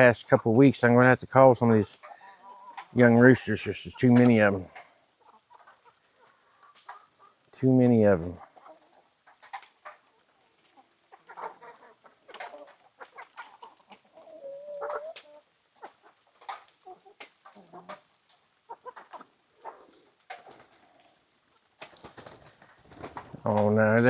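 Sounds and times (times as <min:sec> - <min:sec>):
chickens clucking and squawking: 0:00.0 - 0:24.0.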